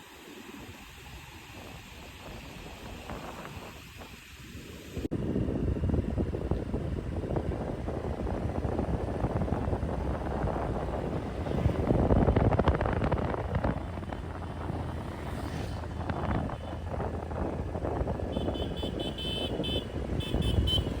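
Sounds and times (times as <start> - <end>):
wind buffeting microphone: 0.8 - 21.0.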